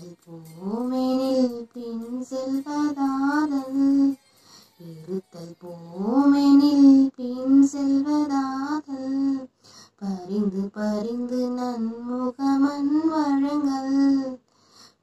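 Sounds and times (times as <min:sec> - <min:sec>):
woman singing unaccompanied: 0:00.0 - 0:14.5.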